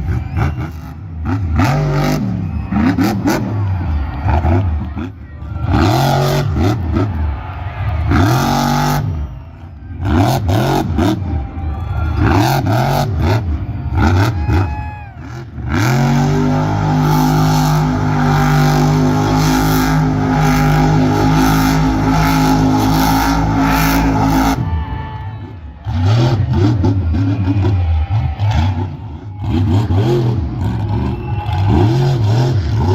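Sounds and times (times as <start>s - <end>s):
truck engine revving: 0.0s - 32.9s.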